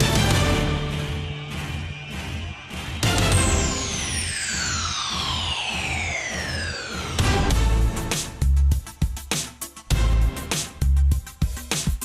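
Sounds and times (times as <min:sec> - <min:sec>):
music beat: 0:00.0 - 0:12.0.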